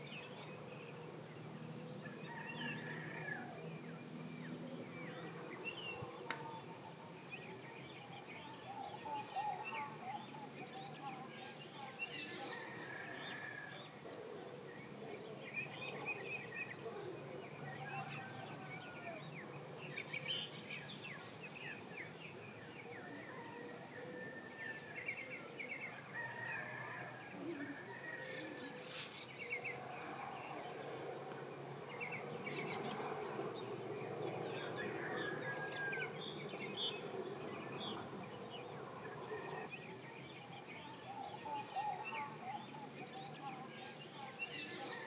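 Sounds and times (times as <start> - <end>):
birds chirping and trilling: 0.0 - 45.0.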